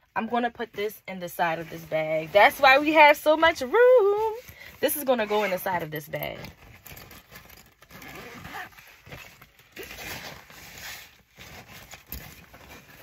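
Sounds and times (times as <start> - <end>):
fabric bag rustling: 1.4 - 13.0.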